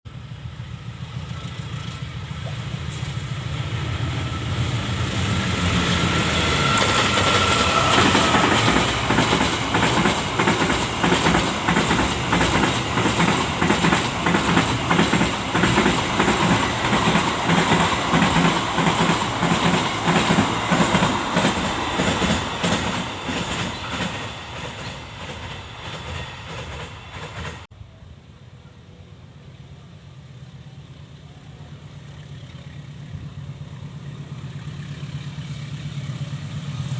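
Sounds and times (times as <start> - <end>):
train passing: 0.1 - 36.9.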